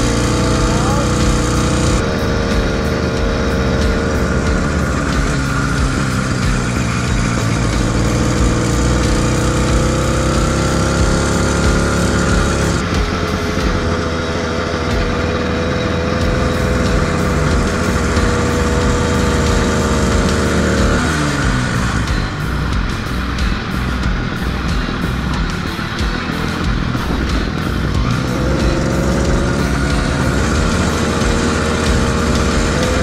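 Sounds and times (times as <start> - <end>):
motorized bicycle engine: 0.0 - 33.0.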